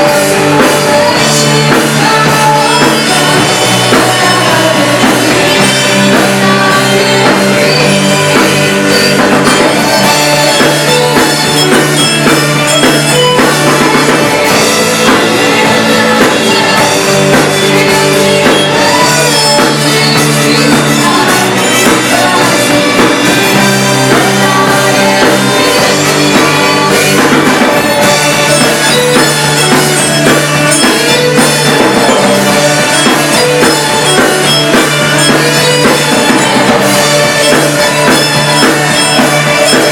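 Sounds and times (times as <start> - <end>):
drum kit: 0.0 - 39.9
electric guitar: 0.0 - 39.9
rock band playing: 0.0 - 39.9.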